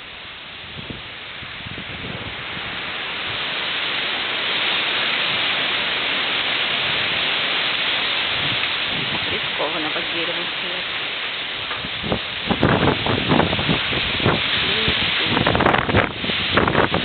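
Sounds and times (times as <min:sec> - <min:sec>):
wind buffeting microphone: 0:00.5 - 0:10.2, 0:11.3 - 0:17.0
strong wind rushing: 0:00.6 - 0:05.7, 0:06.3 - 0:09.8, 0:11.6 - 0:17.0.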